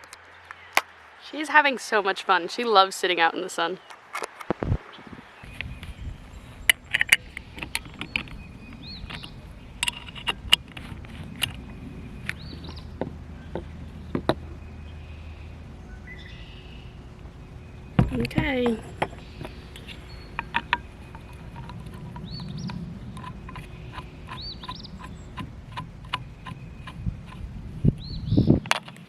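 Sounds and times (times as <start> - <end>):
wind rumble on microphone: 4.4 - 29.0.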